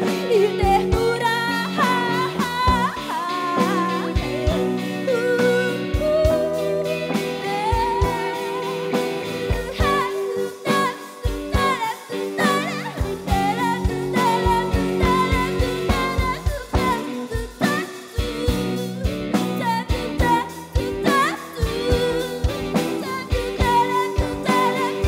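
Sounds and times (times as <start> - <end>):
drums and bass beat: 0.0 - 25.0
guitar chords: 0.0 - 25.0
sliding melody line: 0.0 - 25.0.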